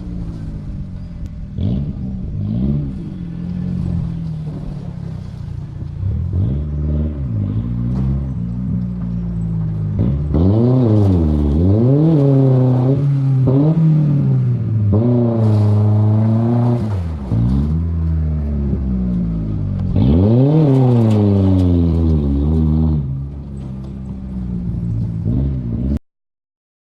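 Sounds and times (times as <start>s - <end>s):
unmuffled truck engine revving: 0.0s - 26.0s.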